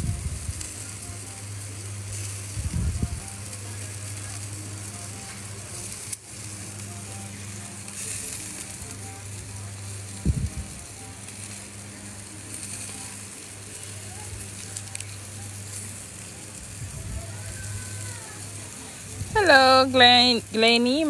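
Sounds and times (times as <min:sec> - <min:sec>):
food sizzling on a grill: 0:00.0 - 0:21.0
low steady hum: 0:00.0 - 0:21.0.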